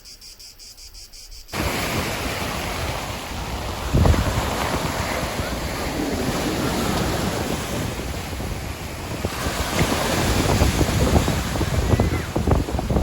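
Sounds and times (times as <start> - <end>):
sea waves washing on beach: 1.5 - 13.0
wind buffeting microphone: 1.6 - 13.0.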